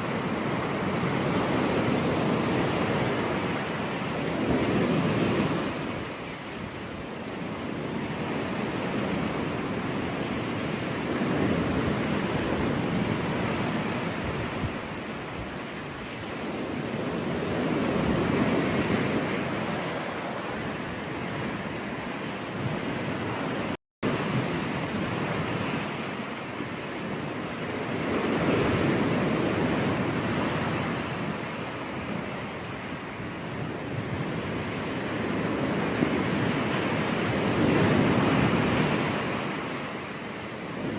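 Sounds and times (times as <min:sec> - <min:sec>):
ocean surf breaking on a beach: 0:00.0 - 0:40.9.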